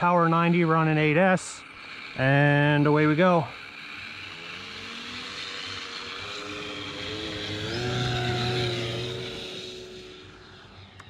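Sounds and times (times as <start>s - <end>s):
model plane motor and propeller whir: 0.0s - 11.0s
turboprop engine sound from speaker: 0.0s - 11.0s.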